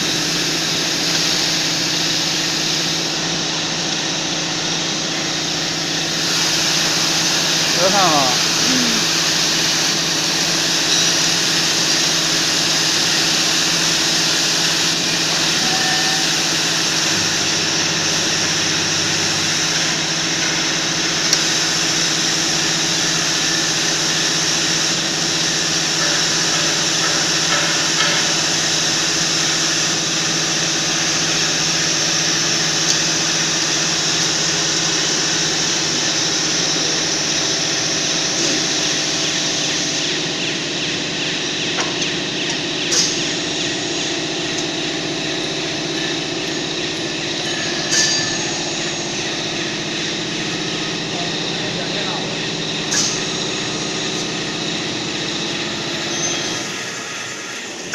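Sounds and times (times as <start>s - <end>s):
welding equipment humming and hissing: 0.0s - 57.9s.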